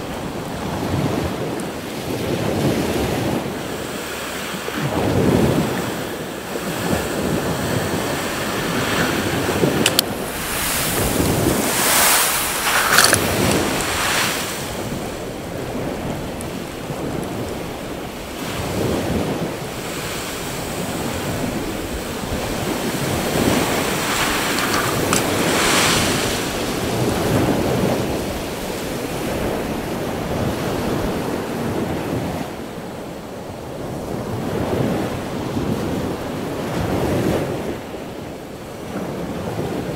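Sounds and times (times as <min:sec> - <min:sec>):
wind buffeting microphone: 0:00.0 - 0:38.0
waves breaking on beach: 0:00.0 - 0:39.9.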